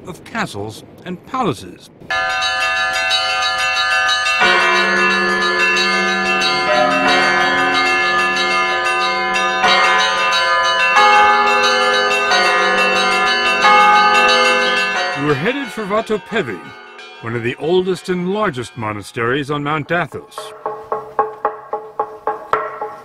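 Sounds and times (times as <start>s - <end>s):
large bells ringing: 2.1s - 23.0s.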